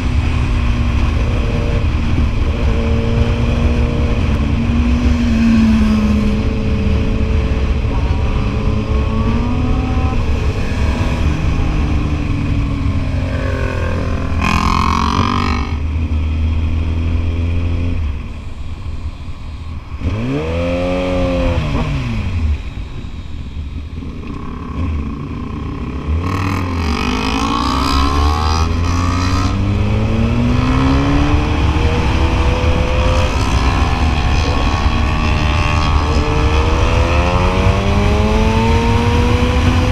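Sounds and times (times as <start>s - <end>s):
motorcycle engine revving through gears: 0.0s - 18.2s, 19.9s - 22.9s, 24.0s - 39.9s.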